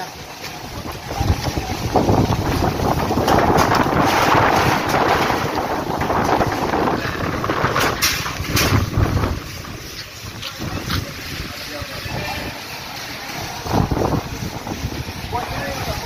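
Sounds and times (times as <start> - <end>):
strong wind buffeting microphone: 0.2 - 12.6, 13.3 - 16.0.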